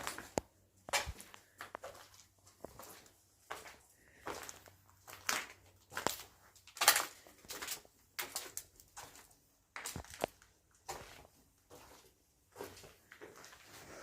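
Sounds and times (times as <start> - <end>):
footsteps crunching over debris: 0.0 - 14.0.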